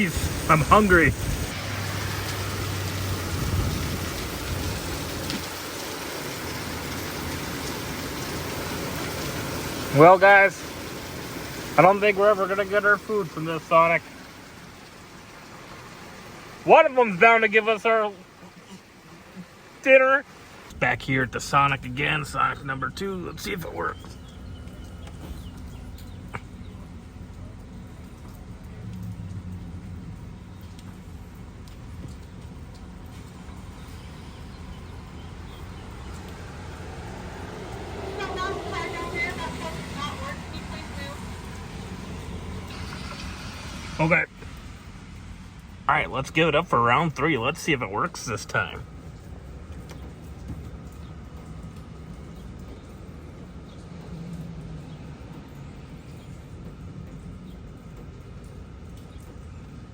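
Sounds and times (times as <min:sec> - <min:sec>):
car engine idling: 0:00.0 - 0:59.9
heavy rain pouring: 0:00.0 - 0:59.9.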